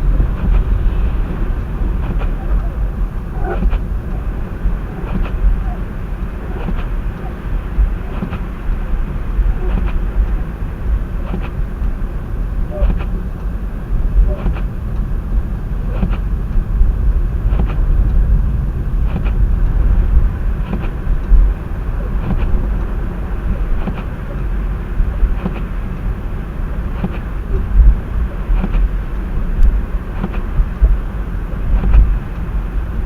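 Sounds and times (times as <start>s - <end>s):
car engine and road rumble: 0.0s - 33.0s
faint ticking: 0.0s - 33.0s.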